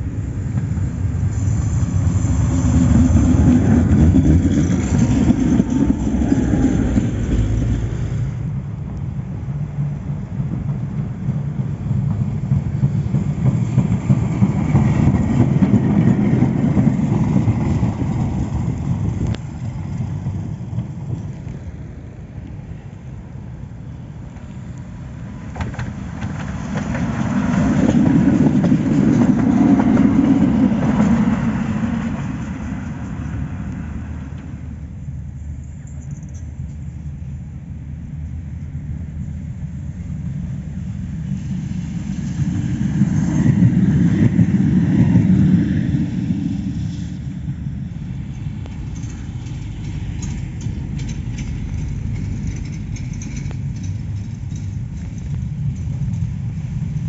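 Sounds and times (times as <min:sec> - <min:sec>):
tram rumbling on track: 0:00.0 - 0:57.0.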